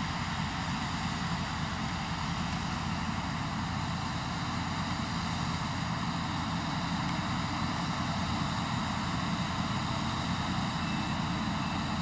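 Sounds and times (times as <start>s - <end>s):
combine harvester droning: 0.0s - 12.0s
tractor engine running: 0.0s - 12.0s.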